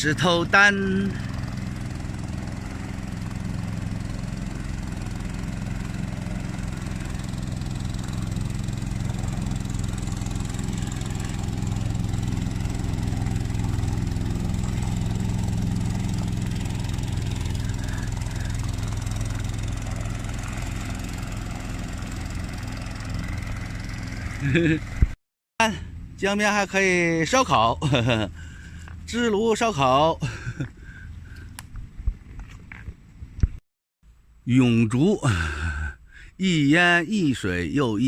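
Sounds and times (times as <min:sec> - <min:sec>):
boat engine humming: 0:00.0 - 0:33.4.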